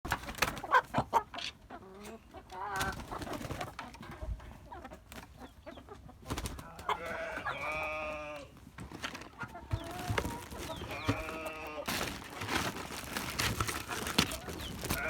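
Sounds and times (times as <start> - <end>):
chickens clucking: 0.1 - 15.0.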